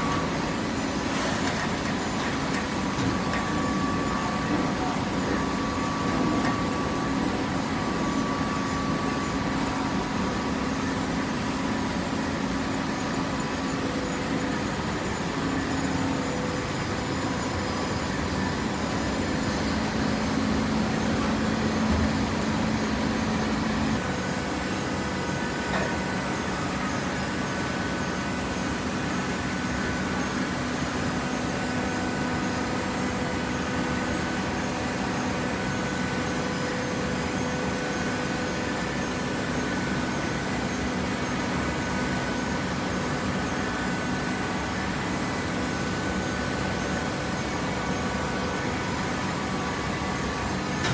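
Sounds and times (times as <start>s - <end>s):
hydraulic motor and pump humming: 0.0s - 50.9s.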